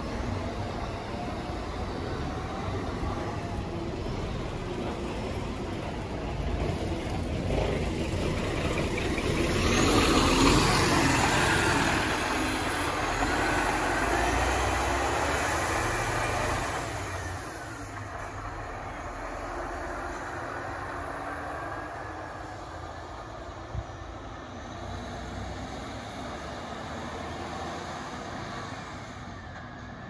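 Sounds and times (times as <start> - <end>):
diesel bus engine passing: 0.0 - 30.0.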